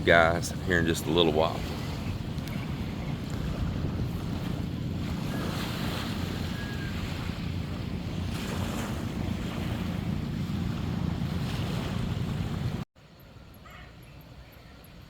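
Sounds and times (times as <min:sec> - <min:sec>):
surf washing onto beach: 0:00.0 - 0:12.8
wind buffeting microphone: 0:00.0 - 0:12.8.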